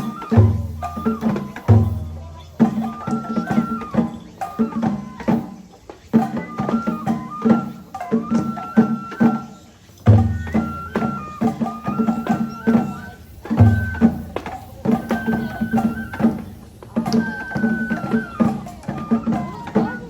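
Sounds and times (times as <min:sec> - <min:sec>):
flute playing high notes: 0:00.0 - 0:20.0
quick steady drum strokes: 0:00.0 - 0:20.0.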